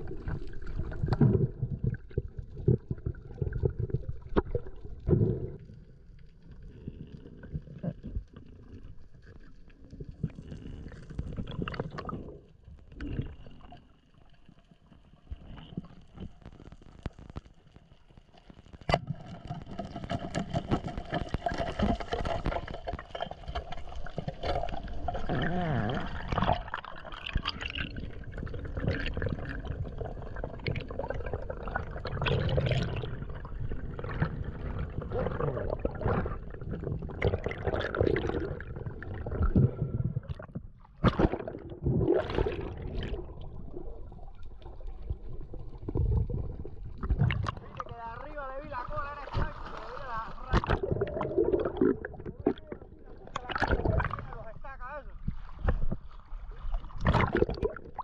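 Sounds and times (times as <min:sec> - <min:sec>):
water gurgling and sloshing: 0:00.0 - 0:58.0.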